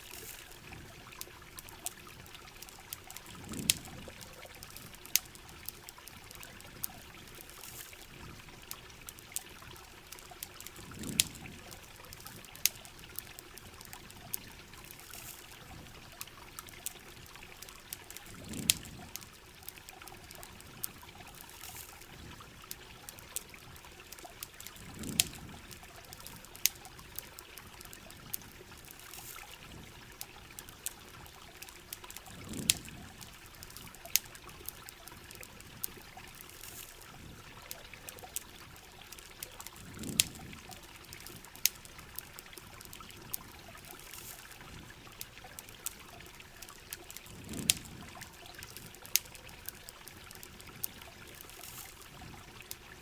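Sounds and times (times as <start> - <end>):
campfire crackling: 0.0 - 53.0
rain hiss: 0.0 - 53.0.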